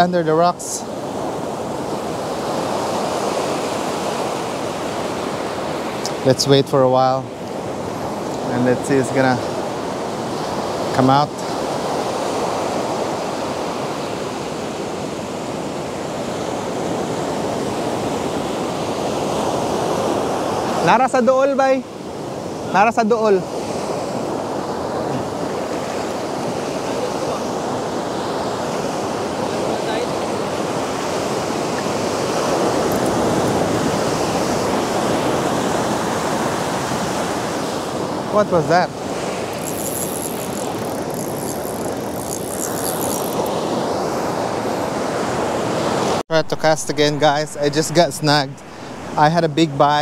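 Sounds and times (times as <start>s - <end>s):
ocean surf breaking on a beach: 0.0s - 50.0s.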